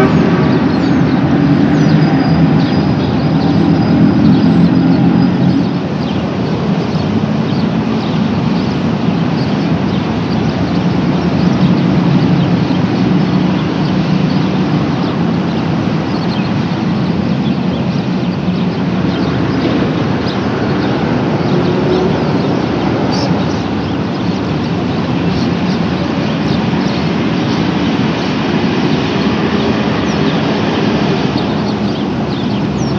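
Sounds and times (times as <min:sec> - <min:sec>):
road traffic rumble: 0:00.0 - 0:32.9.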